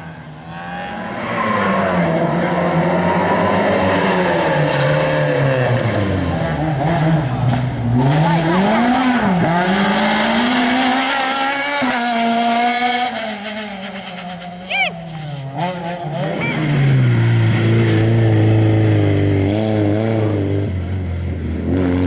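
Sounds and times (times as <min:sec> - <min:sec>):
car engine revving hard: 0:00.8 - 0:14.4, 0:15.6 - 0:22.0.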